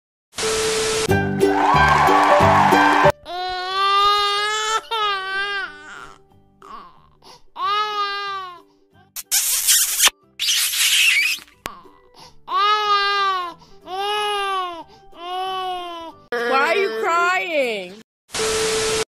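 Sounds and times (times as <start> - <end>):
faint background music: 2.6 - 18.0.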